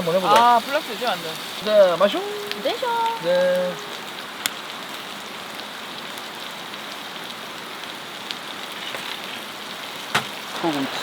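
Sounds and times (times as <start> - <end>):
beef sizzling in a pan: 0.0 - 11.0.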